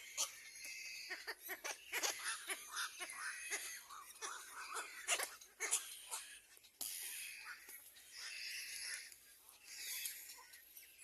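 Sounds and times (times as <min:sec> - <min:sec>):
baby crows calling: 0:00.0 - 0:10.8.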